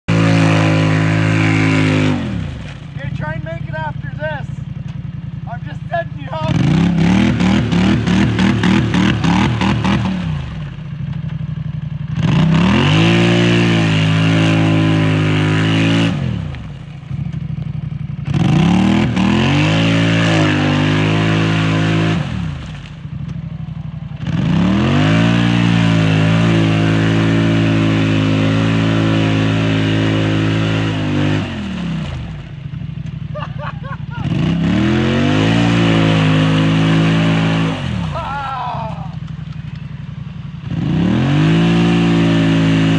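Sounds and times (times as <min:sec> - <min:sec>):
atv engine revving: 0:00.0 - 0:42.9
tires spinning in mud: 0:00.1 - 0:04.2, 0:06.2 - 0:11.1, 0:12.2 - 0:42.9.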